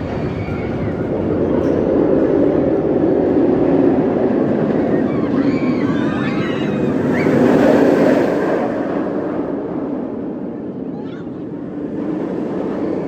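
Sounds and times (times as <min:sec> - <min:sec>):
roller coaster rumbling on track: 0:00.0 - 0:13.0
wind blowing over microphone: 0:00.0 - 0:13.0.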